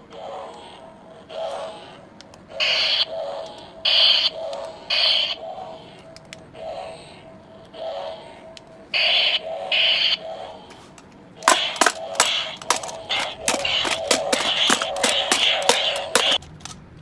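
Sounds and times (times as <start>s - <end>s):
toy lightsaber hum: 0.0s - 16.8s.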